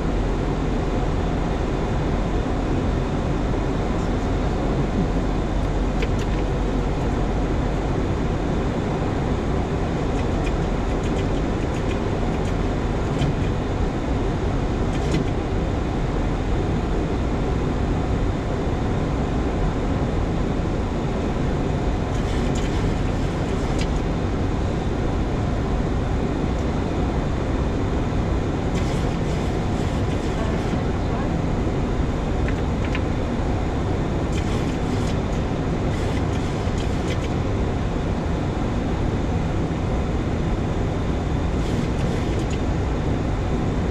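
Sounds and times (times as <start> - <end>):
airflow and engine noise: 0.0 - 43.9.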